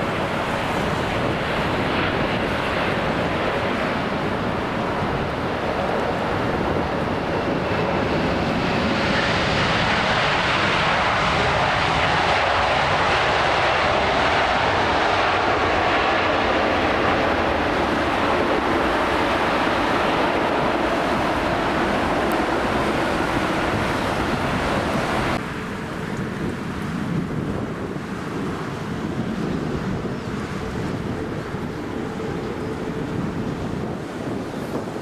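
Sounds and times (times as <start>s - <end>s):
jet engines passing: 0.0s - 35.0s.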